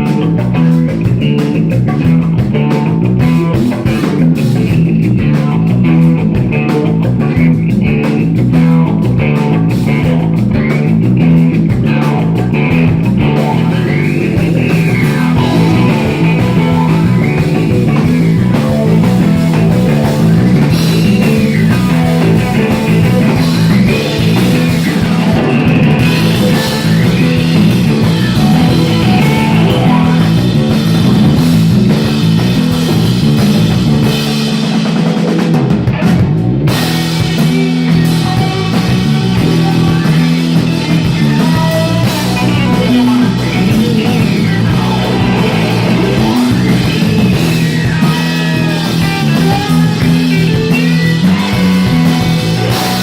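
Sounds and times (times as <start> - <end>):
rock band playing: 0.0 - 53.0.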